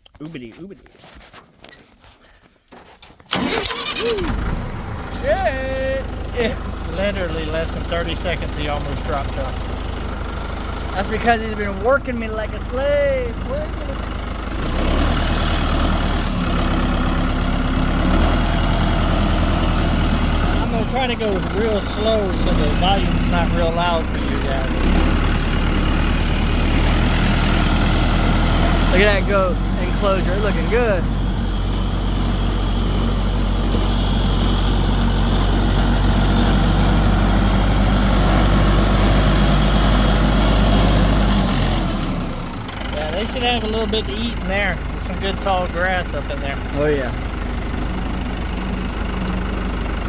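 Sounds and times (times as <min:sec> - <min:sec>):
tractor engine running: 0:03.2 - 0:50.0.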